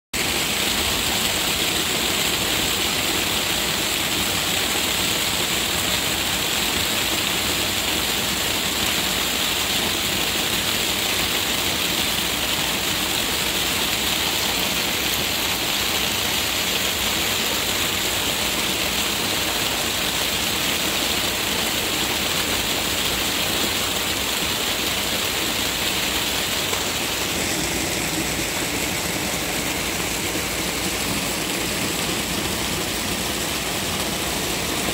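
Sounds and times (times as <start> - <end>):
heavy rain pouring: 0.2 - 34.9
rain splashing into puddle: 0.2 - 34.9.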